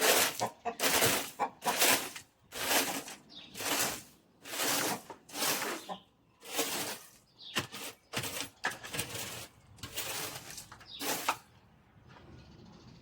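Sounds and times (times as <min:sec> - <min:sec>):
rough scraping strokes: 0:00.0 - 0:11.4.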